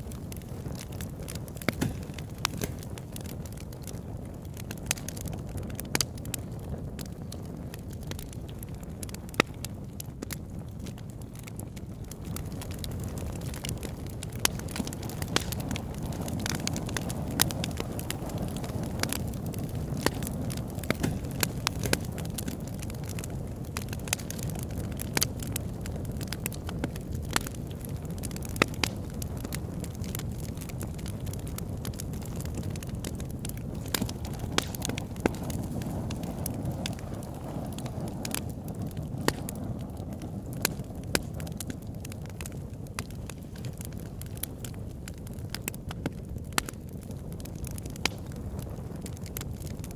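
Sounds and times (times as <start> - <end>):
log fire crackling and popping: 0.0 - 49.9
low fire rumble: 0.0 - 49.9.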